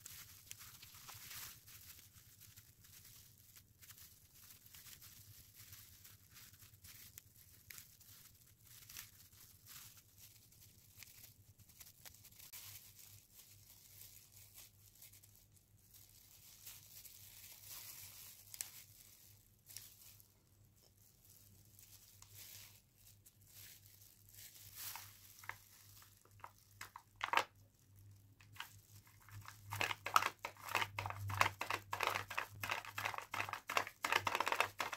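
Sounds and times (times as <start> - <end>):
paper rustling as folded: 0.0 - 34.9
plastic gloves crinkling: 0.0 - 34.9.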